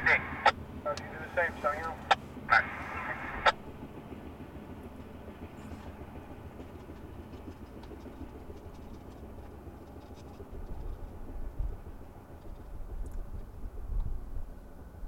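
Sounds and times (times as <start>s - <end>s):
freight train rumbling: 0.0s - 15.0s
heavy uneven low rumbling: 0.0s - 15.0s.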